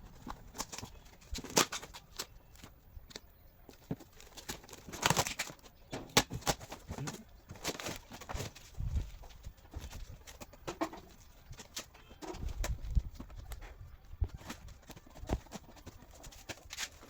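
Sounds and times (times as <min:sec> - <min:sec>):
packaging rustling: 0:00.0 - 0:17.0.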